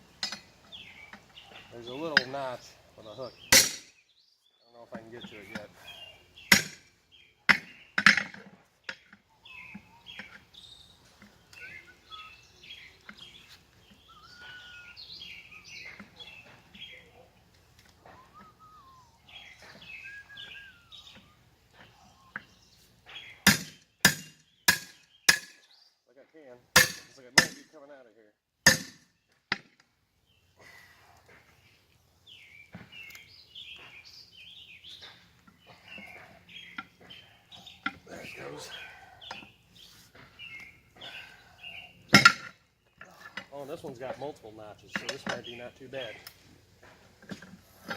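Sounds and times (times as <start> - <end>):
birds chirping and whistling: 0.0 - 26.0, 30.2 - 47.9.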